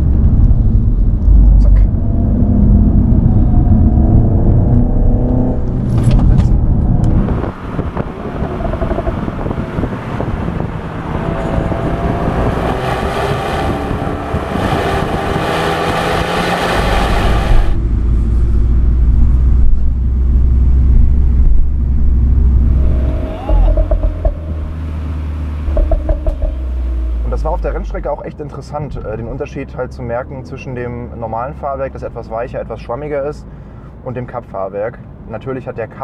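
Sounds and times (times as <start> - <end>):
car engine accelerating: 0.0 - 29.5.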